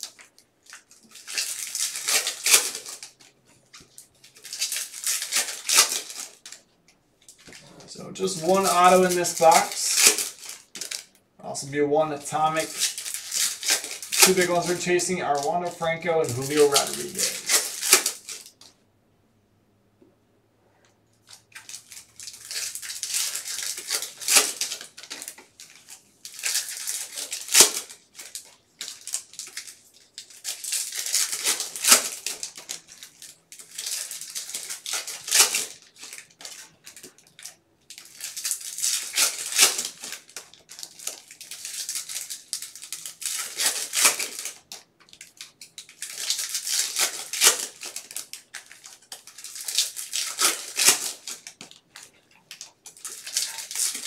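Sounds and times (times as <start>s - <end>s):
foil wrappers crinkling and tearing: 0.0s - 18.7s, 21.2s - 54.0s.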